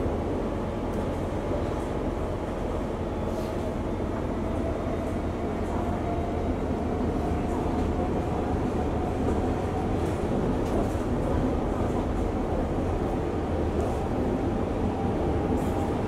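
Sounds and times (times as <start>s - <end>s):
train rumble and rail noise: 0.0s - 16.0s.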